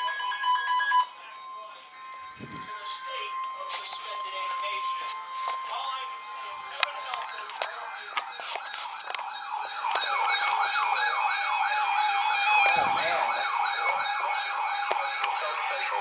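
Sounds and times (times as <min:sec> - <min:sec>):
electronic alert siren yelping: 0:00.0 - 0:16.0.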